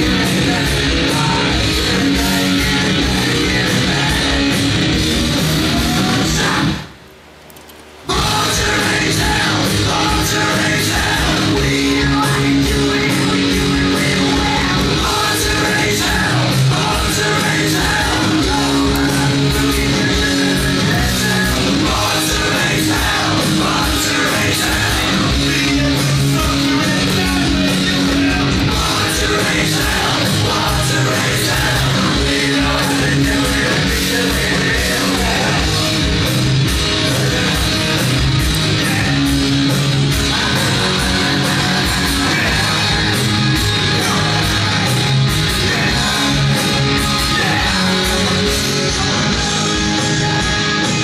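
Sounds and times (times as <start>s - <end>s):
heavy rock music: 0.0s - 7.0s, 8.1s - 51.0s.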